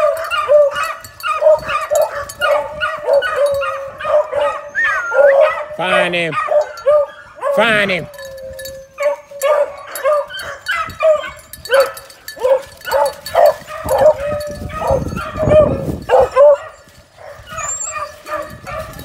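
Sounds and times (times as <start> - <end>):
puppies yipping: 0.0 - 5.8, 6.4 - 19.0.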